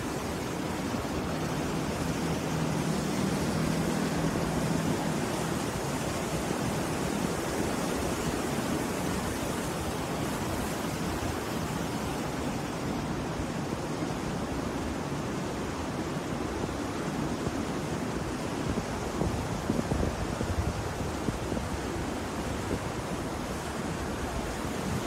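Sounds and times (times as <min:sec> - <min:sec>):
surf waves breaking on shore: 0:00.0 - 0:25.0.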